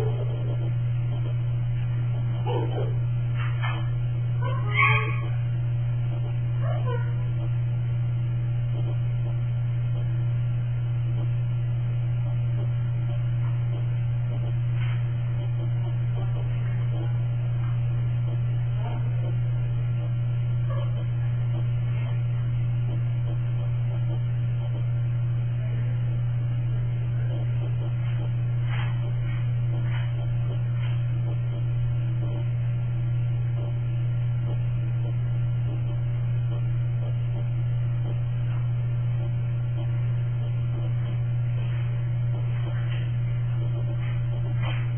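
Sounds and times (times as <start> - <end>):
loud low electrical hum: 0.0 - 44.9.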